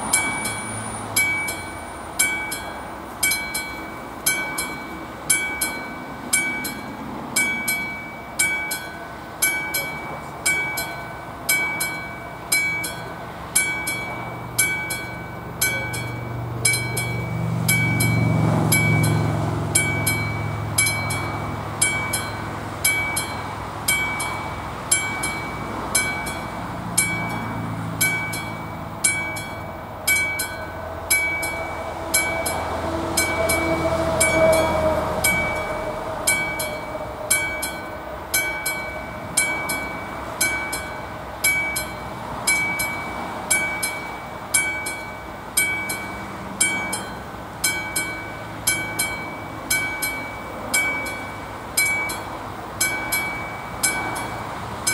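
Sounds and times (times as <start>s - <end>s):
level-crossing bell ringing: 0.0s - 54.9s
train passing with whine: 0.0s - 54.9s.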